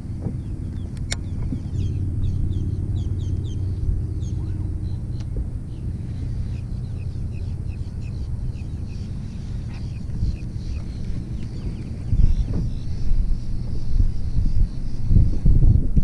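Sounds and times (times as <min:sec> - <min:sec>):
wind rumble on microphone: 0:00.0 - 0:16.0
bird chirping: 0:00.4 - 0:15.3.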